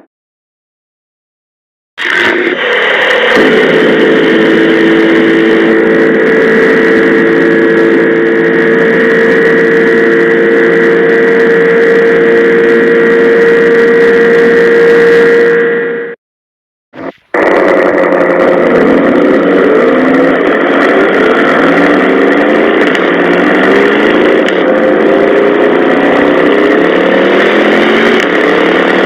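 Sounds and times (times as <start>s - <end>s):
engine running at high speed: 2.0s - 16.2s, 17.0s - 29.0s.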